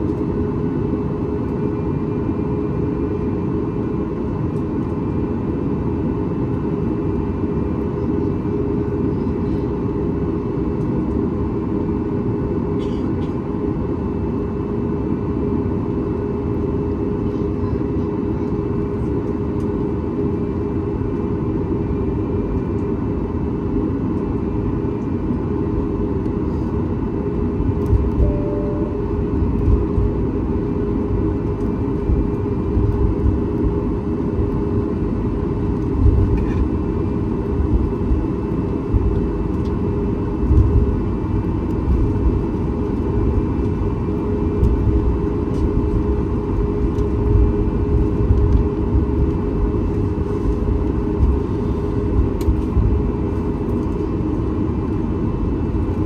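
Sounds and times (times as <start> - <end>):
airplane cabin engine rush: 0.0 - 56.0.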